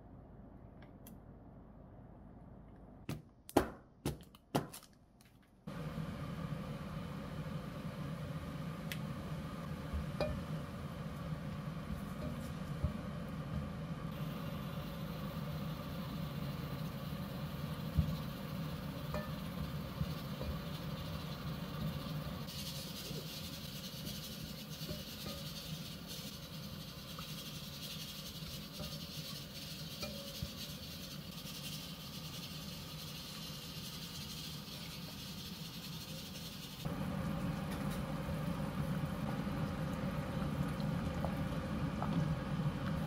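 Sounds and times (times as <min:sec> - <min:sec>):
food sizzling in pot: 0:05.7 - 0:43.0
soup boiling: 0:05.7 - 0:43.0.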